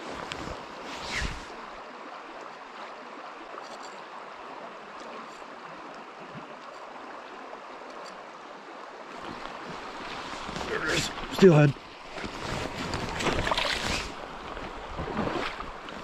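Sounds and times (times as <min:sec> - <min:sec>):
river running over gravel: 0:00.0 - 0:16.0.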